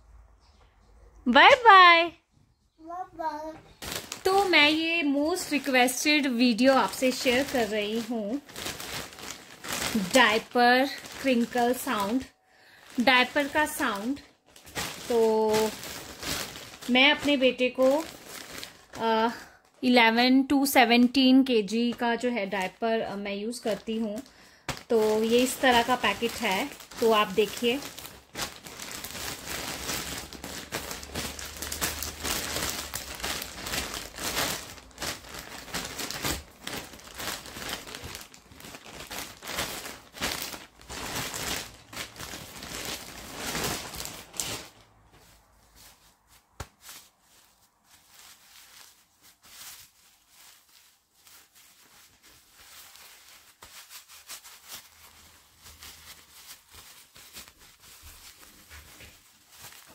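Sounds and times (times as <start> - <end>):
plastic packet crinkling: 3.8 - 19.2, 23.4 - 59.9.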